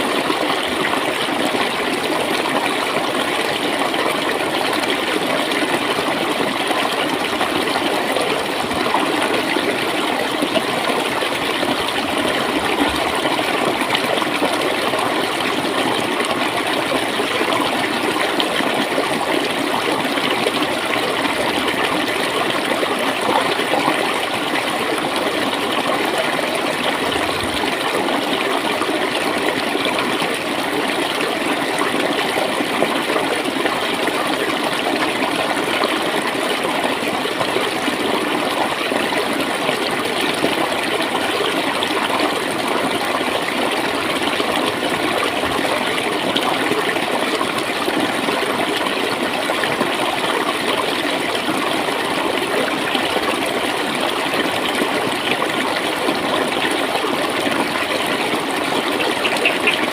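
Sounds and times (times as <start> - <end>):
water flowing and gurgling: 0.0 - 59.9.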